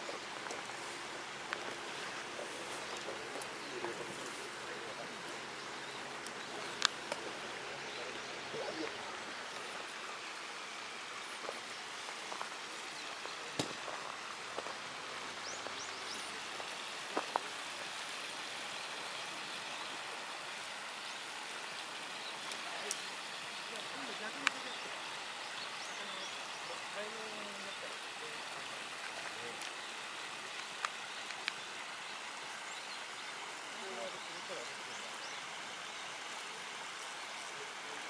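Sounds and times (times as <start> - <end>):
fountain water splashing: 0.0 - 38.0.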